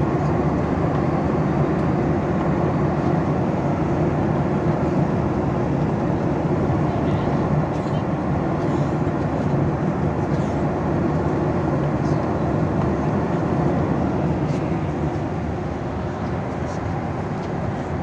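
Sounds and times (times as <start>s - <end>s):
airliner cabin engine rush: 0.0s - 18.0s.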